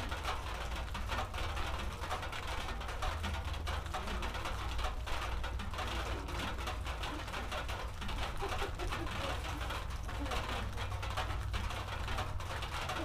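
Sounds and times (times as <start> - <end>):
raindrops tapping: 0.0 - 13.0.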